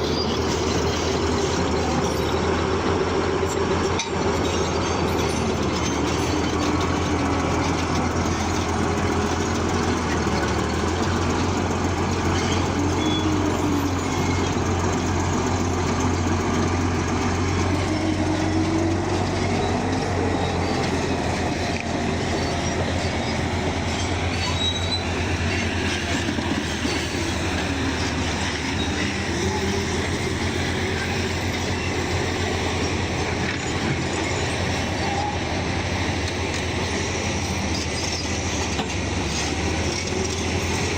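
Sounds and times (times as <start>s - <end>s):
bulldozer diesel engine drone: 0.0s - 40.9s.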